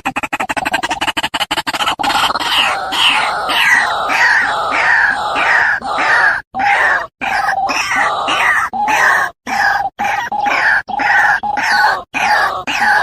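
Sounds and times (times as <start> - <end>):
bird harsh descending cries: 2.1 - 13.0.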